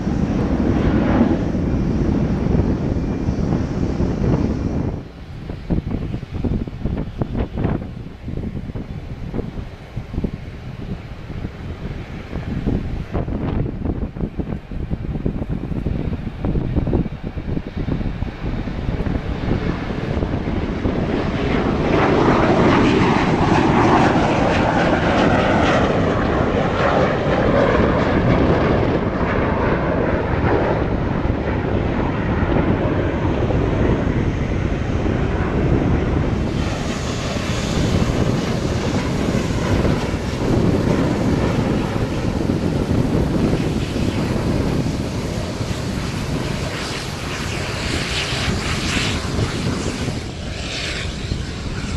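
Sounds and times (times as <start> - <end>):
jet airliner engines hissing: 0.0 - 51.9
jet engines roaring with whine: 0.0 - 51.9.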